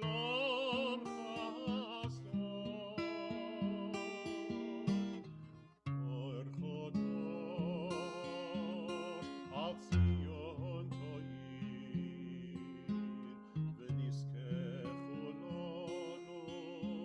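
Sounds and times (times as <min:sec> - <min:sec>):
person singing with vibrato: 0:00.0 - 0:04.7, 0:06.1 - 0:13.1, 0:13.7 - 0:17.0
strummed acoustic guitar: 0:00.0 - 0:17.0.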